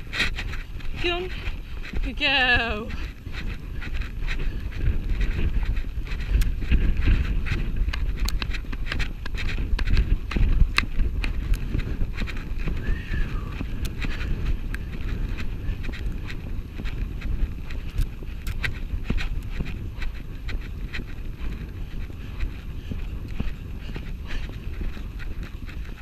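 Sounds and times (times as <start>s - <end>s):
horse hoofbeats on grass: 0.0s - 26.0s
wind buffeting microphone: 0.0s - 26.0s.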